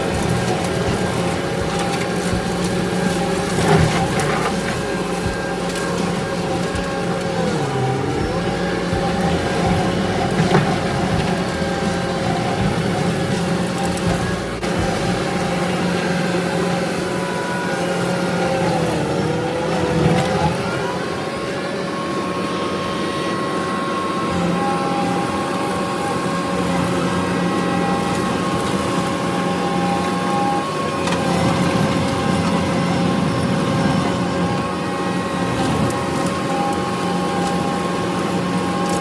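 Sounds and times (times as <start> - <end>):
high hydraulic whine: 0.0 - 39.0
skid steer engine drone: 0.0 - 39.0.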